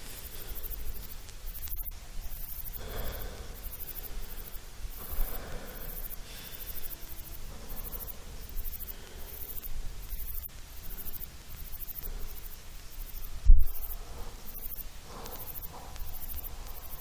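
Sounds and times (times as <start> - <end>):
person breathing slowly: 0.0 - 17.0
steady low rumble: 0.0 - 17.0.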